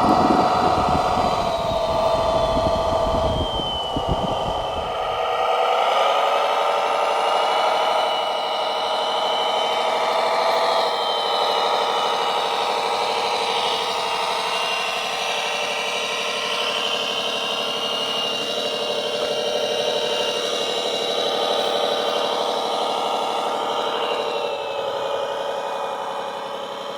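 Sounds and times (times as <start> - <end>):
electric drive whine: 0.0 - 5.8, 9.7 - 26.9.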